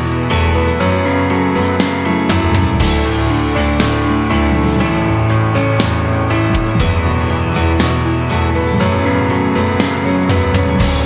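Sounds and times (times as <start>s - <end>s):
music with strummed guitar: 0.0s - 11.0s.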